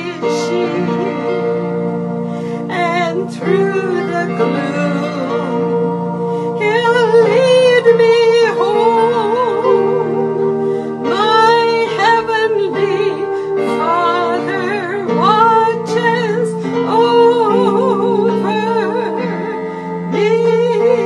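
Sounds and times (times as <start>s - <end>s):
electronic keyboard chords: 0.0s - 21.0s
woman singing with vibrato: 0.0s - 21.0s.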